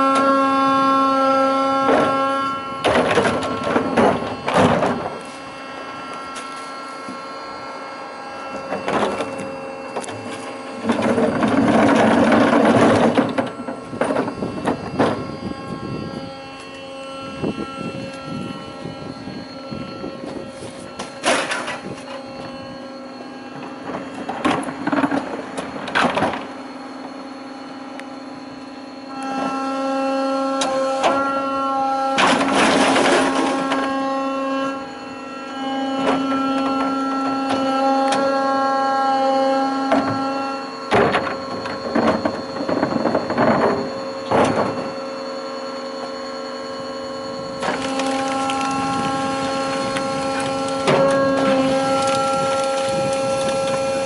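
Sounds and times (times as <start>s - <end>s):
garbage truck hydraulics humming: 0.0s - 54.0s.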